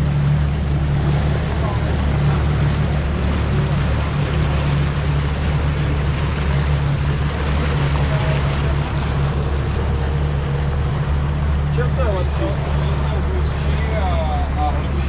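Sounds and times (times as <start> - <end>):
outboard motor running: 0.0 - 15.0
water rushing in wake: 0.0 - 15.0.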